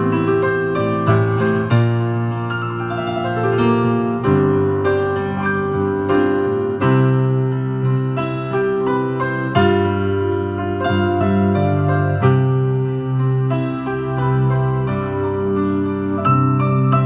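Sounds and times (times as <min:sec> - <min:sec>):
slow piano chords and melody: 0:00.0 - 0:17.0.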